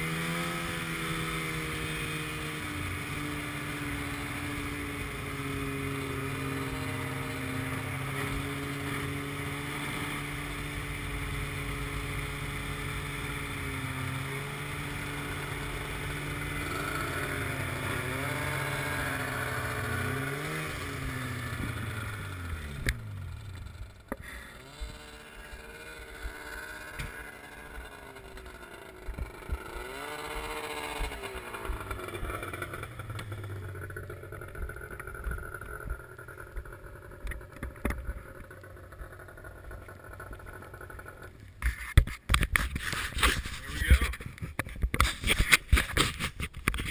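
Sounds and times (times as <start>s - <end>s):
snowmobile engine: 0.0s - 46.9s.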